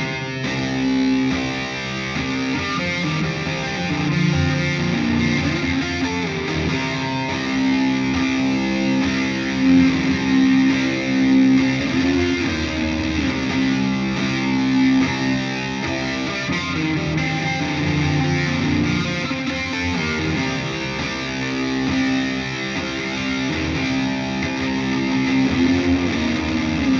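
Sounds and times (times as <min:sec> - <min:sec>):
distorted electric guitar rock: 0:00.0 - 0:26.9.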